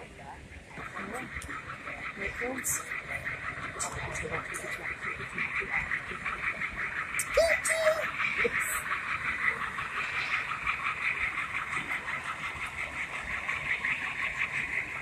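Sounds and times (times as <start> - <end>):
model locomotive diesel engine sound: 0.0 - 15.0.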